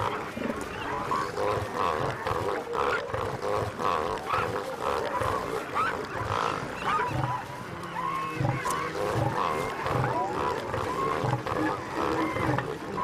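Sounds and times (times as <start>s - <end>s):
elephant seals roaring: 0.0s - 13.0s.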